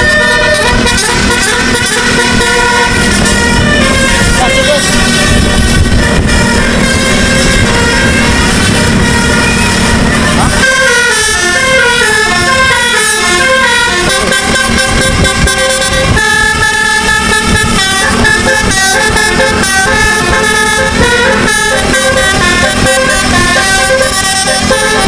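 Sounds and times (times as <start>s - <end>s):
bus musical air horn: 0.0s - 25.0s.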